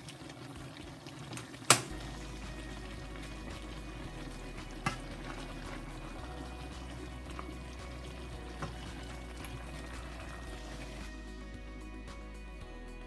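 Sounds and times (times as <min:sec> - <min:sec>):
stew bubbling and sizzling in a pan: 0:00.0 - 0:13.0.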